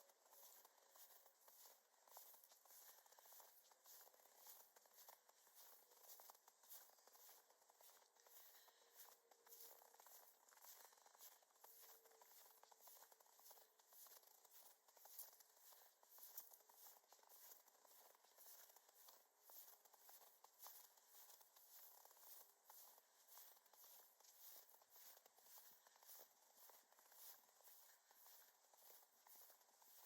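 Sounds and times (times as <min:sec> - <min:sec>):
footsteps crunching through snow: 0:00.0 - 0:30.0.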